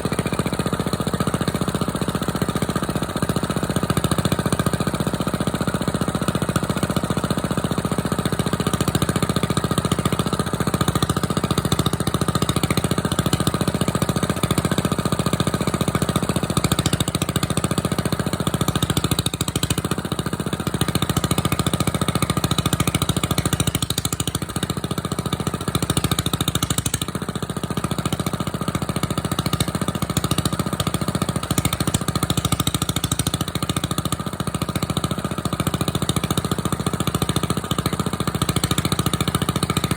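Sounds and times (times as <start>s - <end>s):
small diesel engine running: 0.0s - 39.9s.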